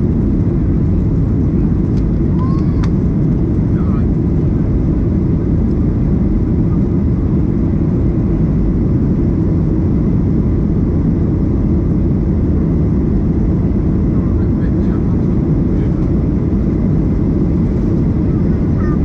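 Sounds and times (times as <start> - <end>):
jet engine roar in cabin: 0.0 - 19.0.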